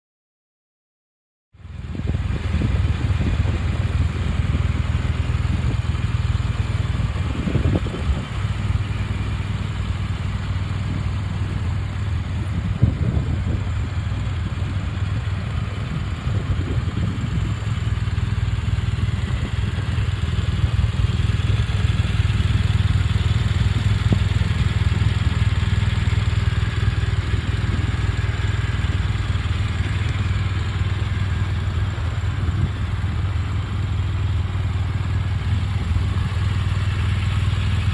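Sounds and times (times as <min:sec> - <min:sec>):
motorcycle engine idling: 0:01.6 - 0:37.9.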